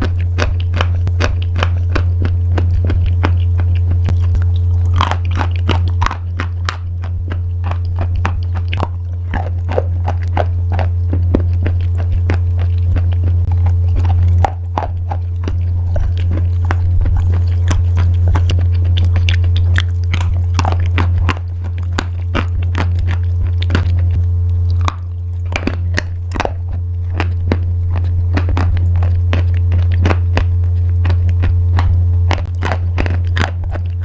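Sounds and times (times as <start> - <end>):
crunchy chewing: 0.0 - 34.0
loud steady low hum: 0.0 - 34.0.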